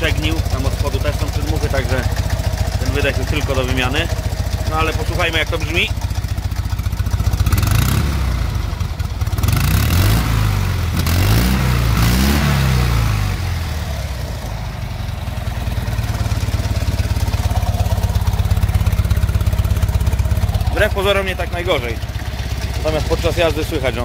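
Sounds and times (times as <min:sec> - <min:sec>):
car engine idling and revving: 0:00.0 - 0:24.0
exhaust leaks blowing: 0:00.0 - 0:24.0.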